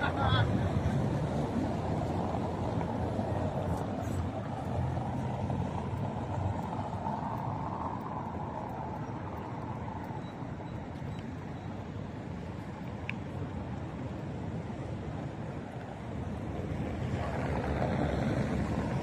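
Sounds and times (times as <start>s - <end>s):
cars driving past: 0.0s - 13.5s, 15.5s - 19.0s
city street traffic hum: 0.0s - 19.0s.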